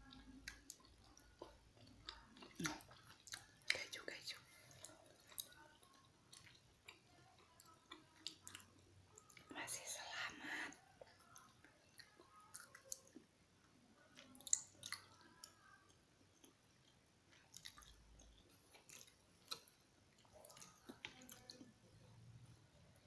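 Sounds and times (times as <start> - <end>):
wet chewing sounds: 0.0 - 9.5, 10.6 - 13.3, 14.1 - 21.8.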